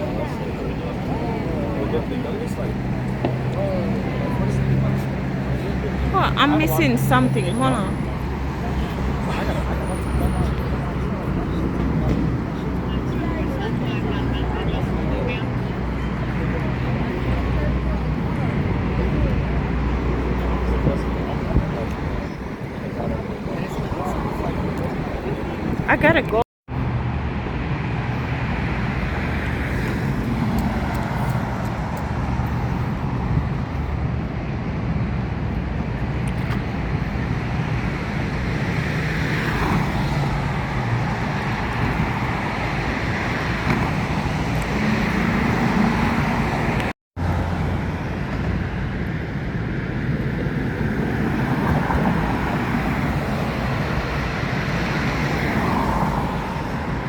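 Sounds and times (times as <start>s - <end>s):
street traffic passing cars: 0.0s - 57.0s.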